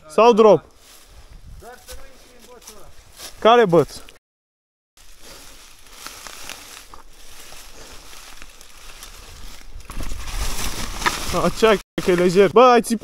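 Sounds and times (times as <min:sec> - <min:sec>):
bike tyres crackling through leaves: 0:00.8 - 0:03.6, 0:05.0 - 0:13.0.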